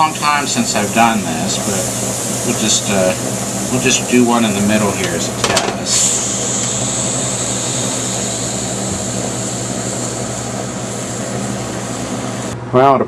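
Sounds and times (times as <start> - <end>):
batter sizzling in waffle iron: 0.0 - 12.6
low machine hum: 0.0 - 13.0.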